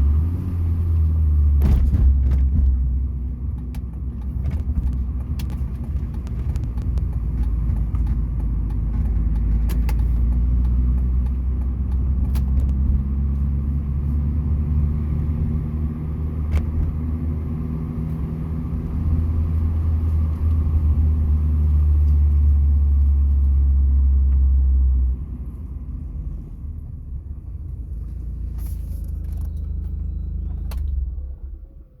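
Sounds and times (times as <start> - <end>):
car engine driving: 0.0 - 32.0
road rumble: 0.0 - 32.0.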